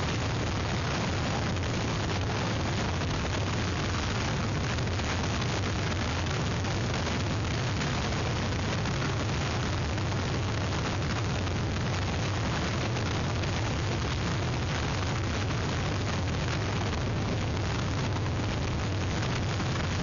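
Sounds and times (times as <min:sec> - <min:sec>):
wind and rain: 0:00.0 - 0:20.0.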